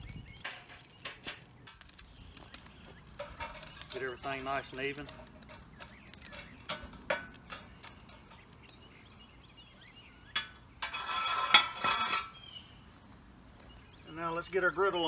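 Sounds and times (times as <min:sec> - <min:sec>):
poker clinking on charcoal: 0:00.0 - 0:12.7
metal and charcoal scraping: 0:00.0 - 0:15.0.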